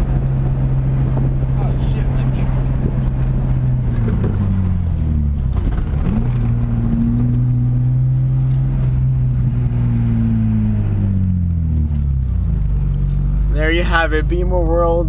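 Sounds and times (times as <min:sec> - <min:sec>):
loud car engine revving: 0:00.0 - 0:15.0.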